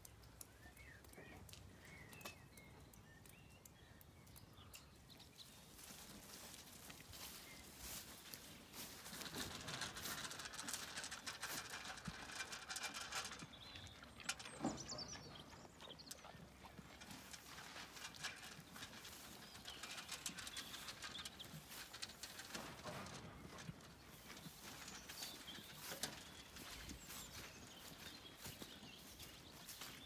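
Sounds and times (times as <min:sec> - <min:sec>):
sheep chewing feed: 0:05.5 - 0:30.0.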